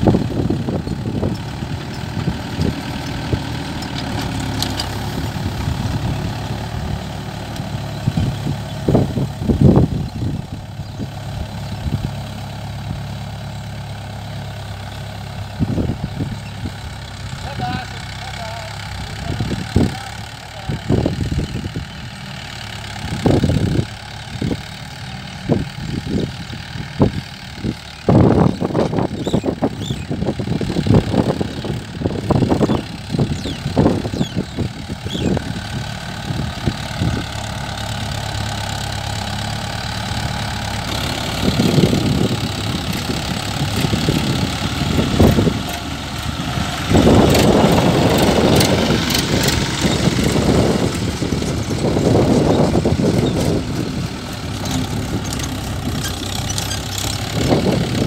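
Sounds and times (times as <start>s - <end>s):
wind buffeting microphone: 0.0s - 13.3s, 15.5s - 17.3s, 20.8s - 22.2s, 22.9s - 24.7s, 25.4s - 39.2s, 40.2s - 58.0s
tractor diesel engine running: 0.0s - 58.0s.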